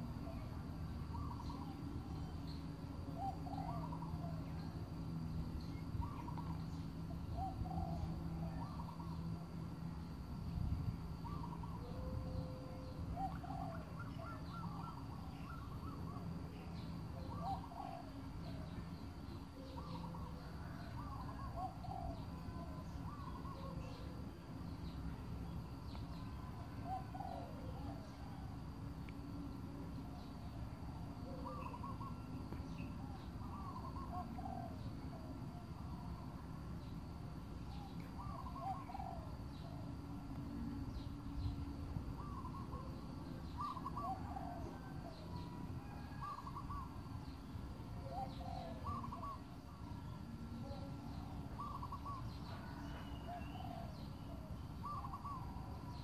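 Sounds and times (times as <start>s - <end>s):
faint high whine: 0.0s - 56.0s
low steady rumble: 0.0s - 56.0s
birds calling: 1.1s - 4.8s, 5.6s - 9.2s, 11.2s - 28.5s, 31.1s - 35.9s, 36.8s - 56.0s.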